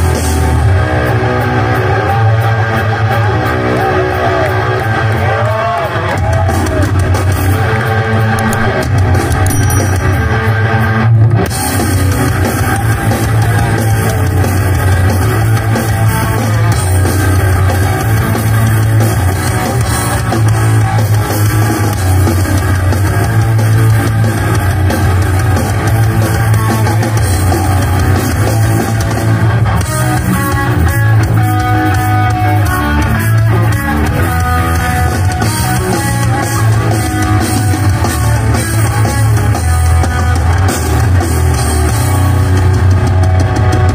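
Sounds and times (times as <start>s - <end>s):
drum kit: 0.0s - 3.5s, 6.0s - 43.9s
bass guitar: 0.0s - 43.9s
distorted electric guitar riffs: 0.0s - 43.9s.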